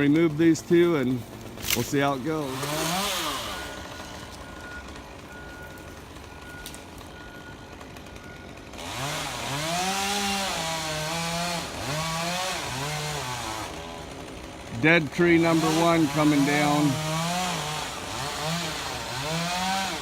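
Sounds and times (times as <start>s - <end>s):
chainsaw idling and revving: 0.0s - 20.0s.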